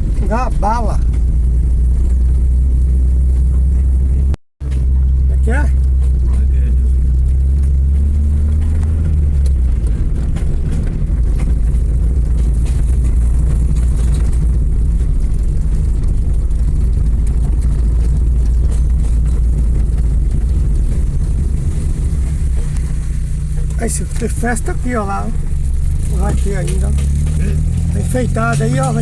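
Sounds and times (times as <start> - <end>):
road vehicle rumble: 0.0 - 29.0.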